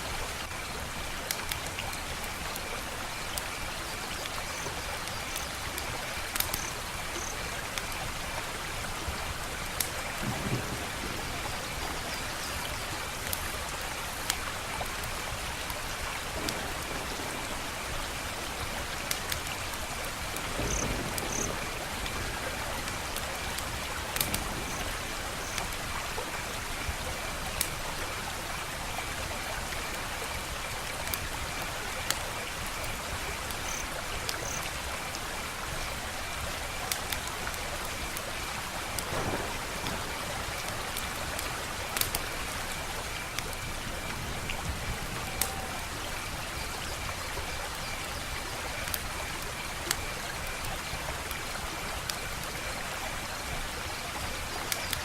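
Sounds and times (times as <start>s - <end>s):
wood fire crackling: 0.1s - 46.2s.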